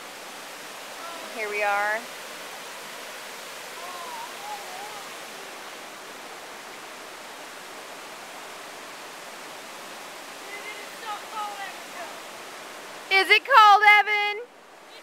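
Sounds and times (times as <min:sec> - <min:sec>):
water rushing over boulders: 0:00.0 - 0:15.0.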